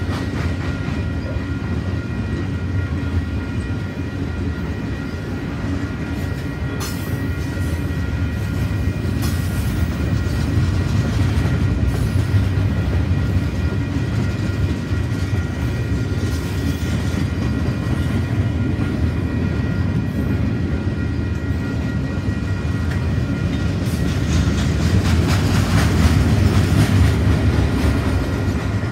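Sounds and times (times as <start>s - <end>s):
freight train wheels rumbling: 0.0s - 28.9s.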